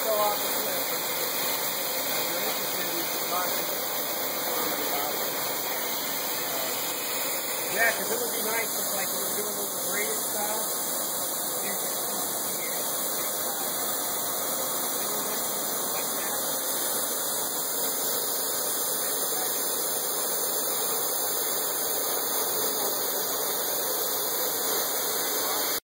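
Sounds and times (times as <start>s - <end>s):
milling machine cutting metal: 0.0s - 25.8s.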